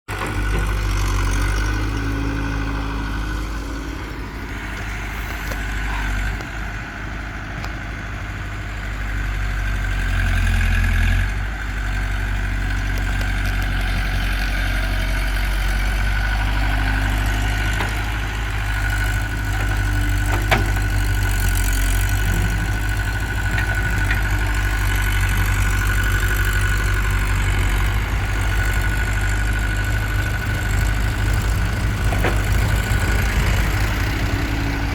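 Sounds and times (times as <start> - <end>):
diesel engines droning: 0.1 - 34.9.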